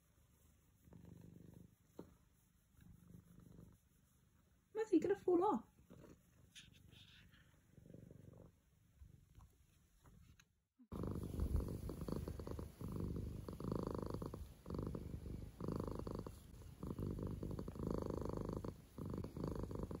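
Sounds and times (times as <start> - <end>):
cat purring: 0.0 - 4.7, 5.6 - 20.0.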